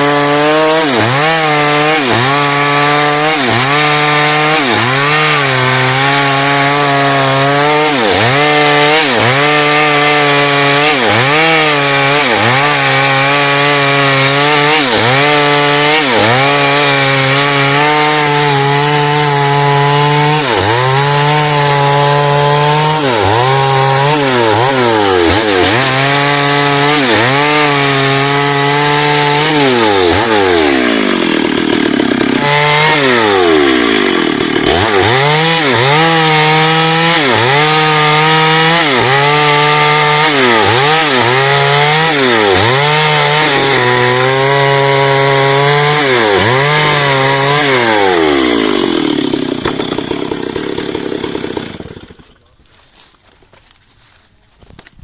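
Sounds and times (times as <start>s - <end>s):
chainsaw cutting timber: 0.0s - 55.0s.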